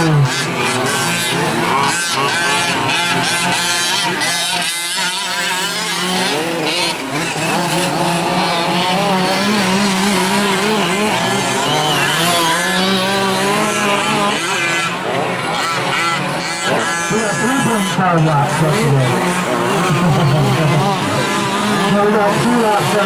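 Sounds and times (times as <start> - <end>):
small two-stroke engines whining: 0.0 - 23.0.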